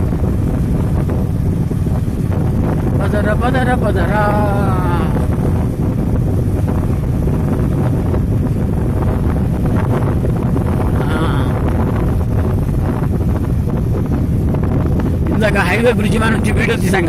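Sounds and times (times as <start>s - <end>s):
road noise: 0.0s - 17.0s
wind buffeting microphone: 0.0s - 17.0s.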